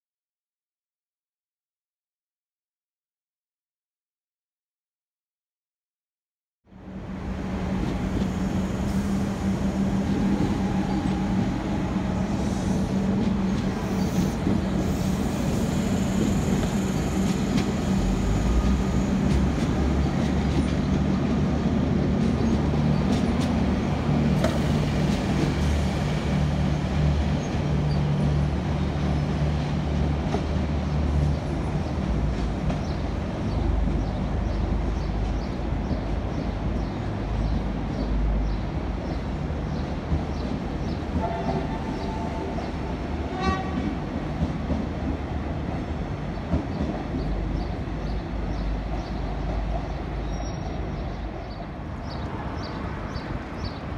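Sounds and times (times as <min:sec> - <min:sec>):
train wheels rumbling on rail: 0:06.8 - 0:53.9.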